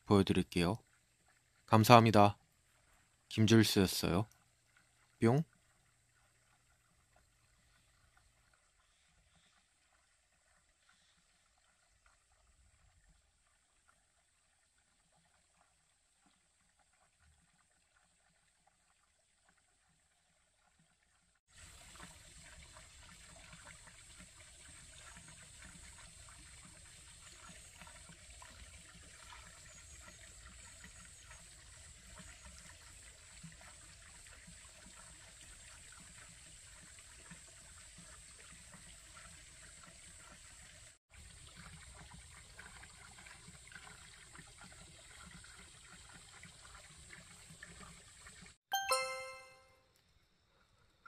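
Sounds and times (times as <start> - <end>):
water trickling: 0.0 - 49.5.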